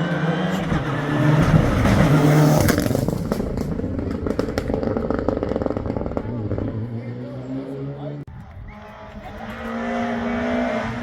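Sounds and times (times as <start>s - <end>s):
engine crackles: 0.0s - 11.0s
rally car engine revving: 0.0s - 11.0s.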